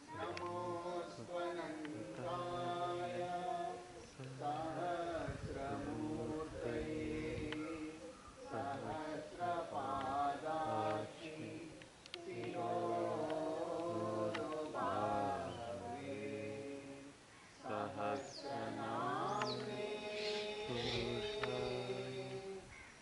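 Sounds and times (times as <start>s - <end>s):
voices chanting a prayer: 0.0s - 23.0s.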